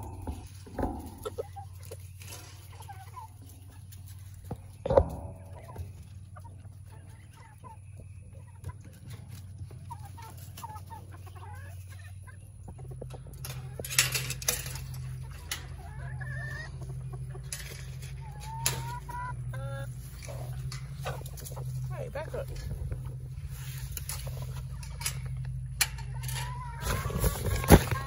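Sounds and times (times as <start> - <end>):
steady low hum: 0.0 - 9.9, 12.2 - 28.0
hens clucking: 0.0 - 28.0.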